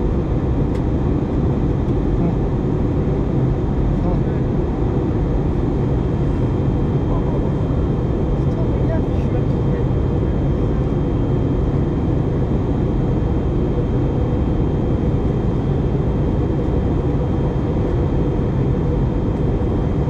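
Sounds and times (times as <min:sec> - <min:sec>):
jet engine hum: 0:00.0 - 0:20.0.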